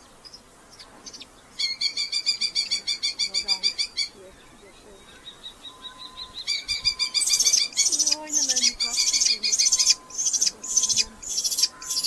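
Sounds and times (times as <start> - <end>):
falcons calling harshly: 1.1 - 12.0.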